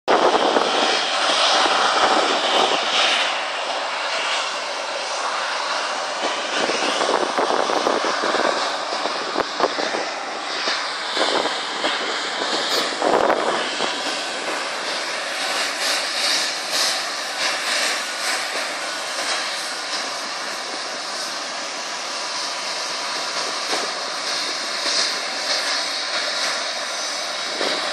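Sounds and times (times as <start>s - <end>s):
jet engines running: 0.1s - 27.9s.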